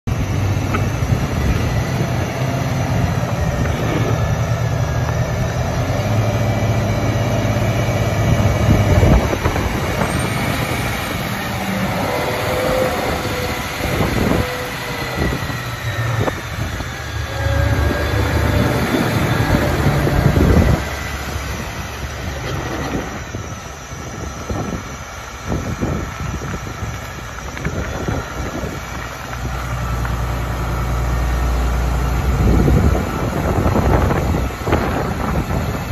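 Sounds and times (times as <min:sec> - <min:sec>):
tractor diesel engine running: 0:00.0 - 0:35.9
faint whine: 0:00.1 - 0:35.9.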